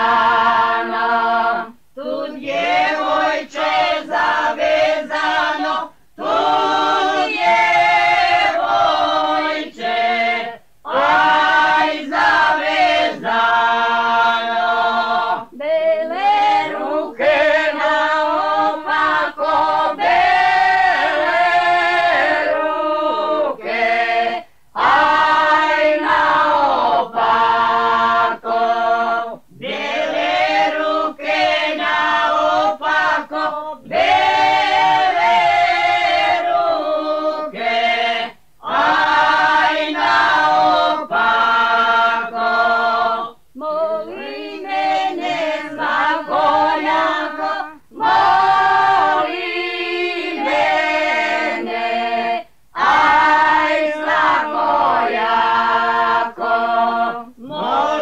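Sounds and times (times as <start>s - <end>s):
folk group singing together: 0.0s - 58.0s.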